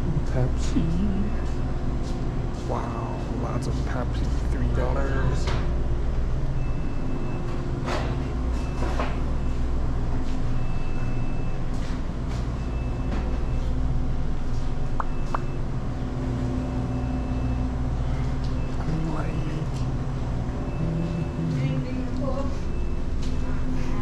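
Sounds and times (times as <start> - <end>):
low hum of drink coolers: 0.0 - 24.0.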